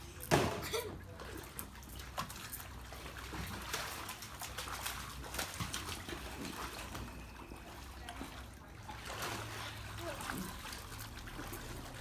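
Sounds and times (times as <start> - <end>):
water splashing in a pool: 0.0 - 12.0.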